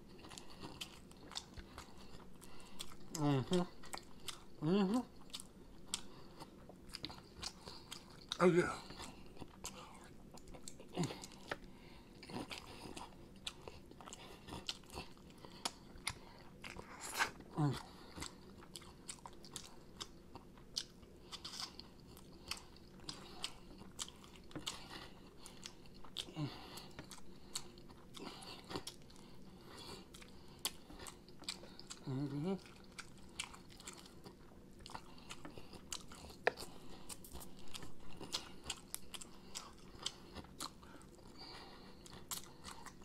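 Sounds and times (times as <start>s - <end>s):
chewing chicken wings: 0.0s - 43.0s.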